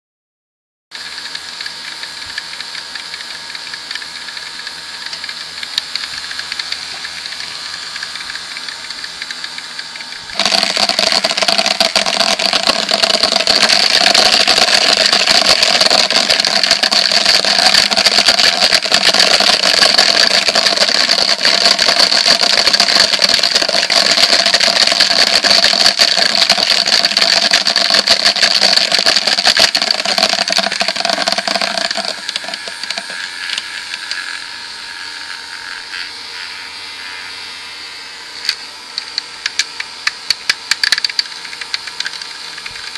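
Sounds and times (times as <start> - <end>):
motors rattling in plastic tub: 1.0 - 37.4, 38.5 - 42.9
small motors buzzing: 1.0 - 42.9.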